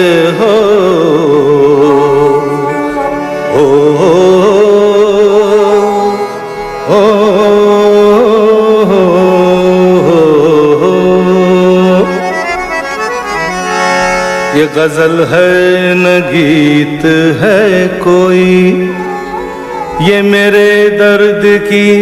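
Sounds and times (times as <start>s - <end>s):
slow wavering vocal melody: 0.0s - 12.3s, 16.4s - 22.0s.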